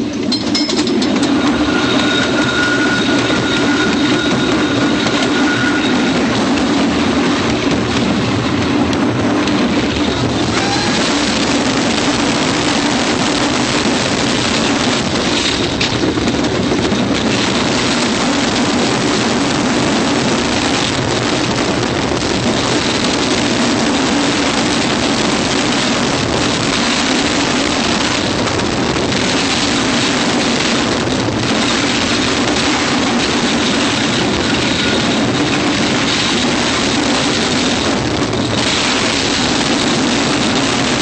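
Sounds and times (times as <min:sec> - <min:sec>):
wind rushing over microphone: 0:00.0 - 0:41.0
wooden roller coaster rumbling: 0:00.0 - 0:41.0.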